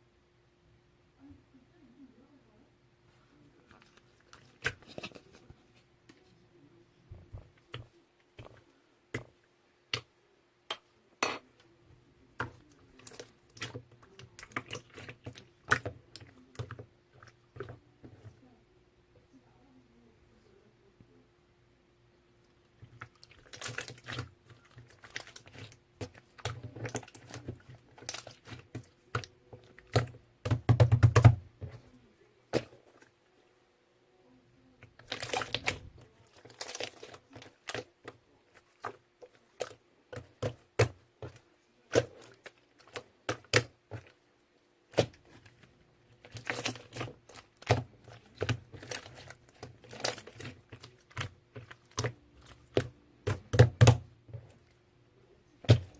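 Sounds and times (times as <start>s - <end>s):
slime squelching: 3.2s - 6.4s, 7.1s - 10.1s, 10.7s - 18.6s, 22.4s - 33.6s, 34.5s - 55.9s.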